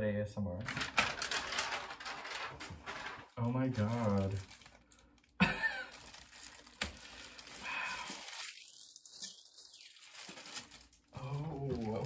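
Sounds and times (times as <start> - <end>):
plastic wrap crinkling: 0.6 - 12.0.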